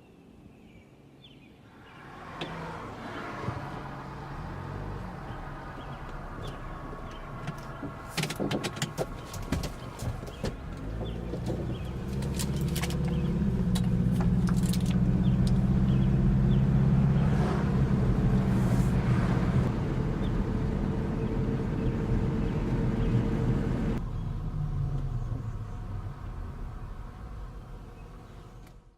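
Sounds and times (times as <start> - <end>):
vehicle engine running: 3.5 - 28.9.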